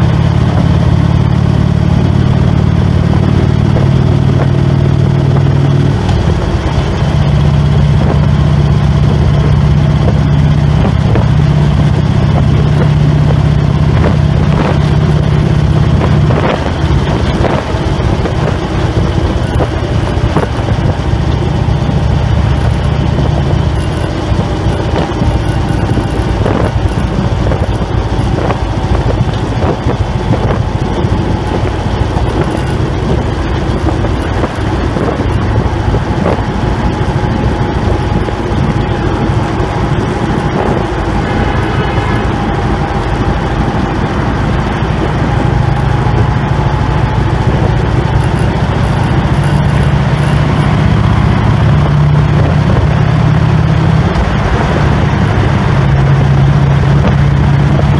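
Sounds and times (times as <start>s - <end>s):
motorcycle engine cruising: 0.0s - 57.9s
road noise: 0.0s - 57.9s
wind noise: 0.0s - 57.9s.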